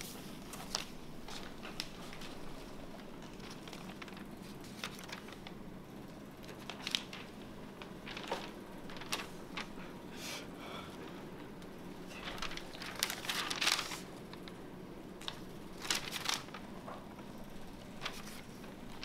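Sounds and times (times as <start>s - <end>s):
paper rustling: 0.0s - 5.6s, 6.4s - 10.0s, 12.0s - 14.6s, 15.2s - 19.0s
low steady hum: 0.0s - 19.0s.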